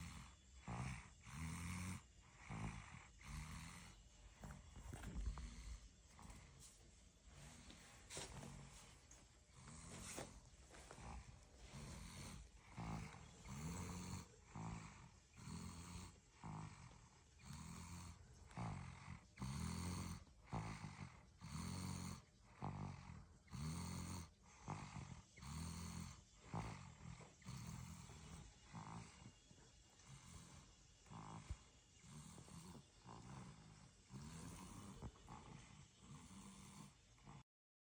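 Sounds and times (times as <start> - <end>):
toddler snoring: 0.0 - 6.6, 7.3 - 37.4.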